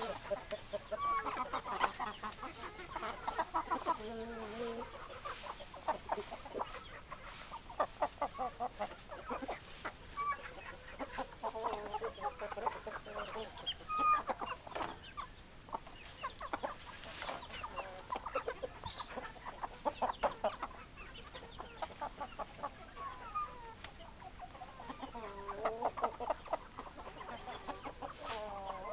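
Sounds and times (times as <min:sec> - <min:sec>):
chickens clucking: 0:00.0 - 0:28.9.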